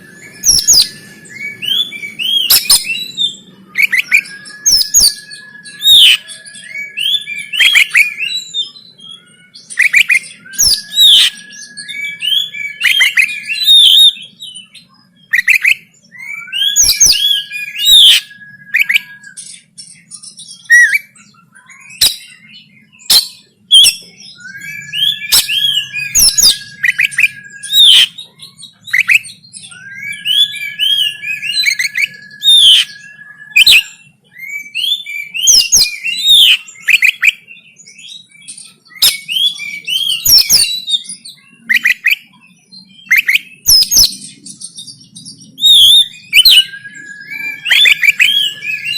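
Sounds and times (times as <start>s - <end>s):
bird singing harsh rapid notes: 0.0s - 48.9s.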